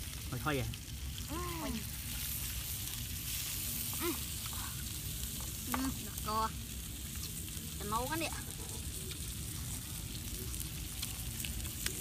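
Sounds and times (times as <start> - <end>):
fire sizzling and crackling: 0.0 - 12.0.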